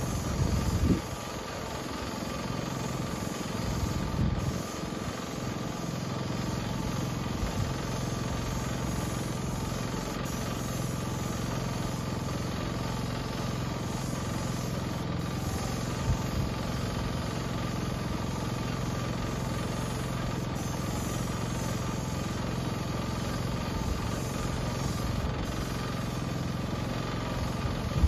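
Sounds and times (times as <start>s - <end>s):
small engine running steadily: 0.0s - 28.0s.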